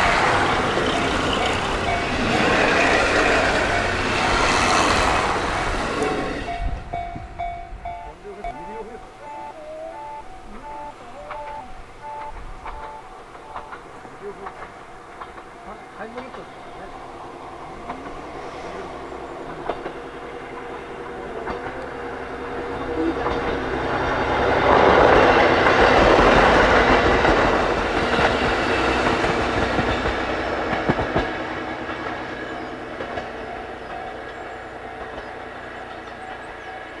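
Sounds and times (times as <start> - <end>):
passenger train passing: 0.0 - 37.0
wheels clacking over rail joints: 0.0 - 37.0.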